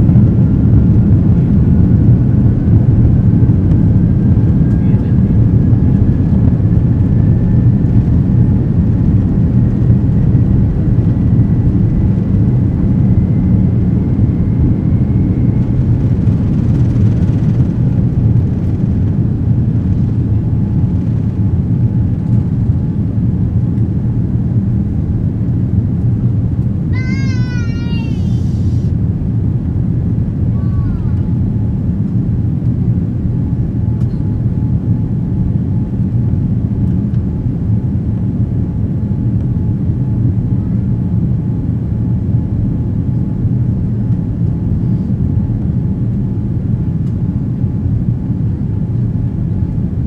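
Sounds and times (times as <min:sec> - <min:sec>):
jet engine and airflow rush: 0:00.0 - 0:50.0.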